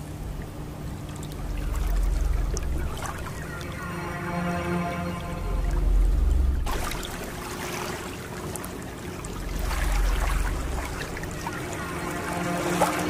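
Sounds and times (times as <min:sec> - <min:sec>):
faint steady hum: 0:00.0 - 0:13.0
low rumble: 0:00.0 - 0:13.0
river water rushing past boat: 0:00.0 - 0:13.0.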